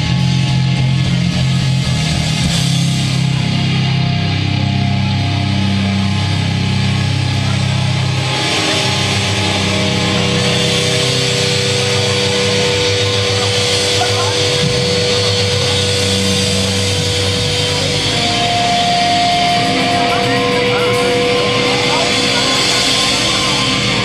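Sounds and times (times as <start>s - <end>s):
cymbals washing: 0.0s - 24.0s
heavy rock band playing: 0.0s - 24.0s.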